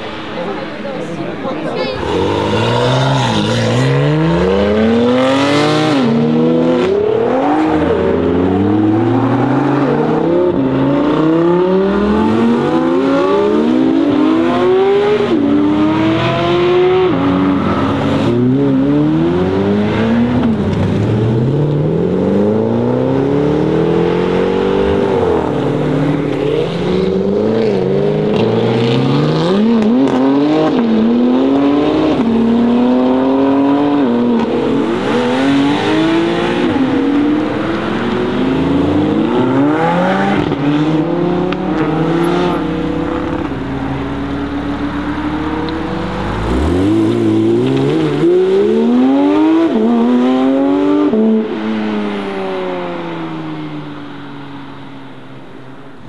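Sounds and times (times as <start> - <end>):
car engine revving through gears: 2.0 - 53.8.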